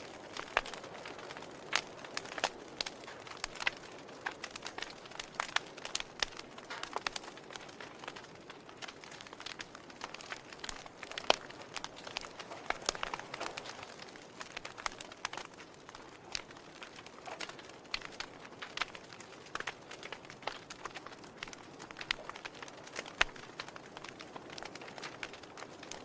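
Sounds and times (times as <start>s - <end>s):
fire crackling: 0.0s - 26.0s
soft steady hiss: 0.0s - 26.0s.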